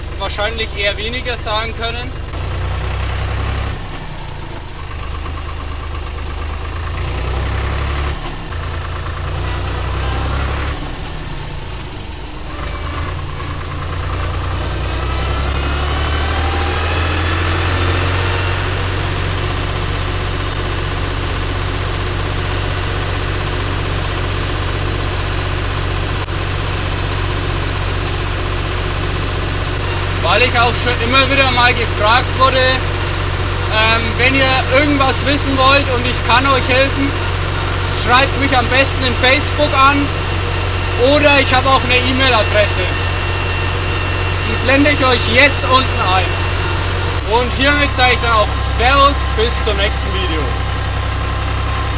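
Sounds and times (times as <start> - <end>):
tractor diesel engine: 0.0 - 51.9.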